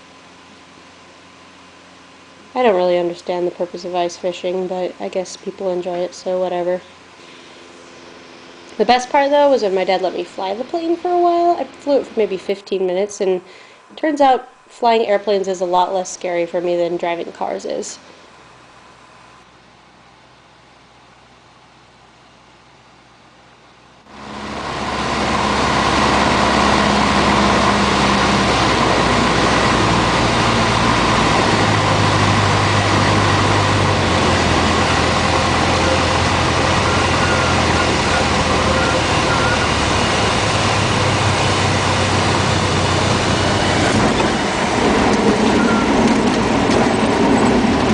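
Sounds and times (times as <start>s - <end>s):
aircraft engine and propeller droning: 0.0s - 20.2s, 24.1s - 47.9s.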